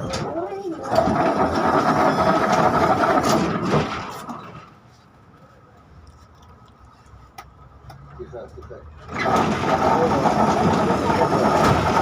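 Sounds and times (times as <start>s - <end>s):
tram rumble with faint whine: 0.0s - 12.0s.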